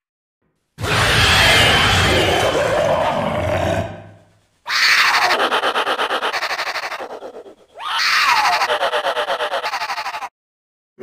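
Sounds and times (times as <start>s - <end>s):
monster roars: 0.8s - 10.2s.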